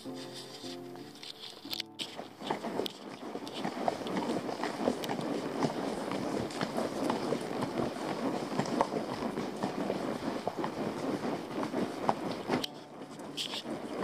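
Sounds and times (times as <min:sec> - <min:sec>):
horse hoofbeats on sandy track: 0:00.0 - 0:14.0.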